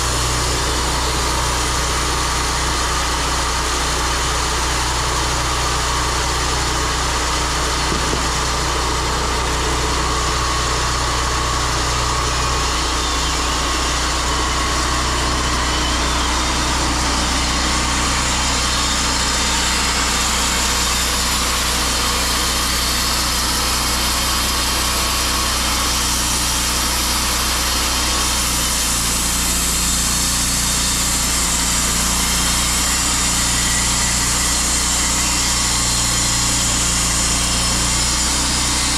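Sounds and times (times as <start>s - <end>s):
sawmill engine running: 0.0s - 38.9s
saw blade hissing through log: 7.6s - 38.9s.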